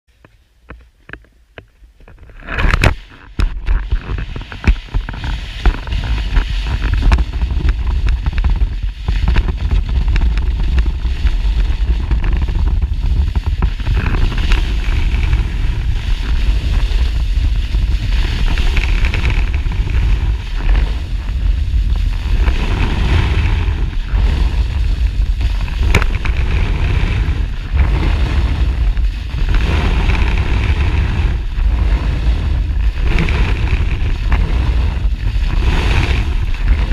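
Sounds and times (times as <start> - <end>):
wind and board vibration rumble: 0.1 - 36.9
board scraping on snow: 2.0 - 36.9.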